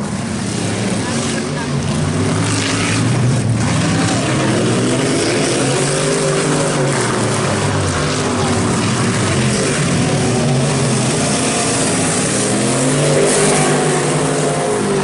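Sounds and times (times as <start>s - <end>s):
racing truck engines: 0.0s - 15.0s.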